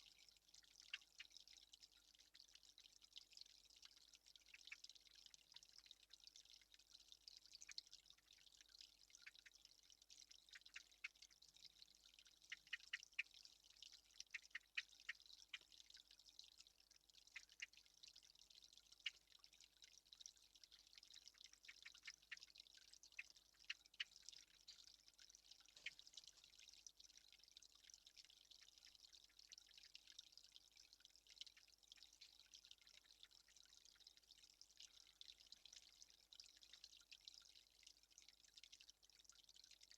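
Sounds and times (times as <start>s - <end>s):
faint dripping clicks: 0.0s - 39.9s.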